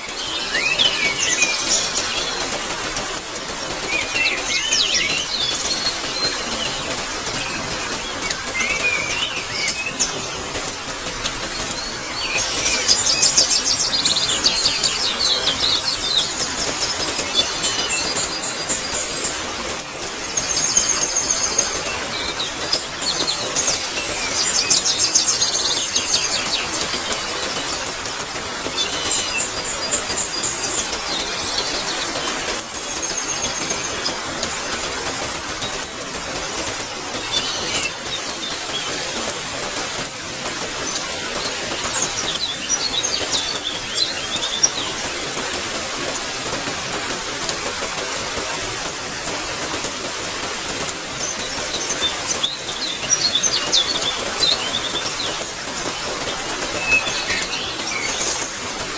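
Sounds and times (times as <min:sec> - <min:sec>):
birds chirping: 0:00.0 - 0:58.9
rain hiss: 0:00.0 - 0:58.9.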